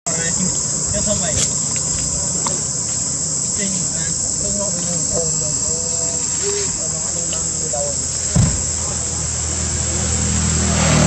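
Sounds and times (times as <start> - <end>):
insects buzzing shrilly: 0.1 - 11.0.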